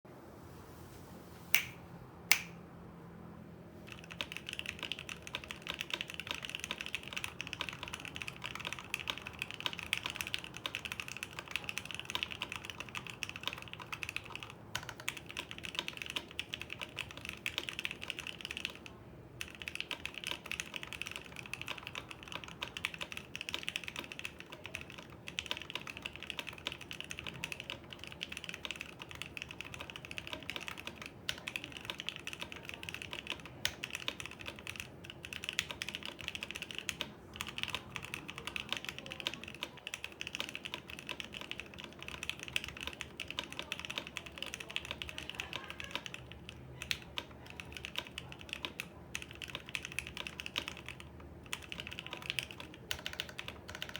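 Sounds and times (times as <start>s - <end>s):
mechanical keyboard typing: 3.8s - 53.9s.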